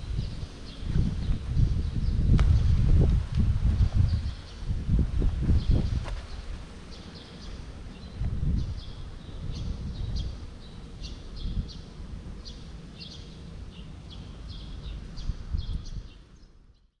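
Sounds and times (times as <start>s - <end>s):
low outdoor rumble: 0.0s - 16.9s
small birds chirping: 0.0s - 17.0s.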